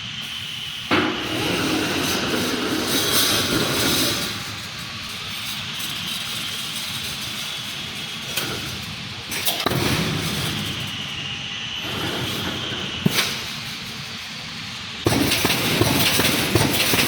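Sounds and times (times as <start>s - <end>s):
welding machine whining: 0.0s - 17.0s.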